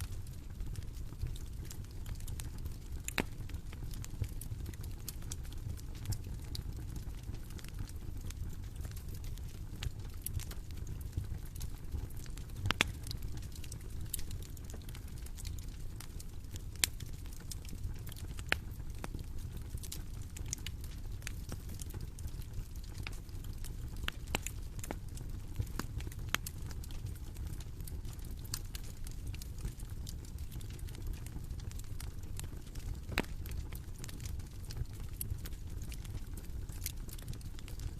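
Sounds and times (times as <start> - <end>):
low rumble of flames: 0.0 - 37.9
wood crackling and popping: 0.0 - 37.9.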